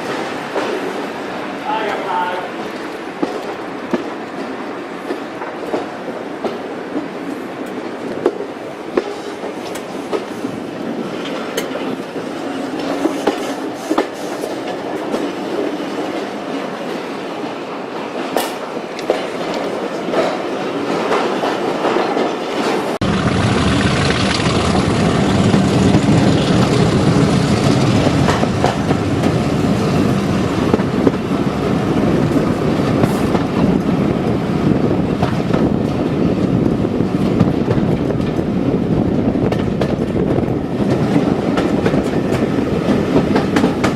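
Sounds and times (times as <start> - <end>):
train clicks: 0.0 - 1.1, 1.7 - 17.1, 18.0 - 31.4, 32.2 - 34.4, 35.2 - 36.5, 39.3 - 43.9
diesel train rumbling: 0.0 - 43.9.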